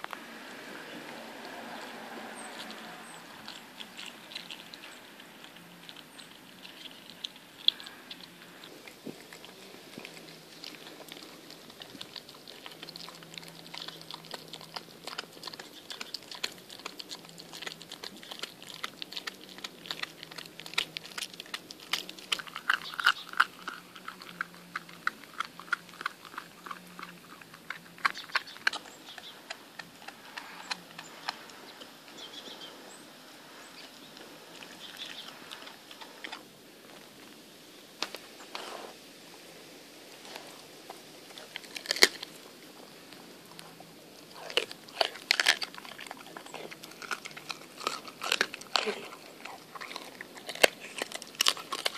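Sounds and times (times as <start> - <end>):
dog chewing and biting meat: 0.6 - 32.4, 40.9 - 42.8, 43.5 - 51.9.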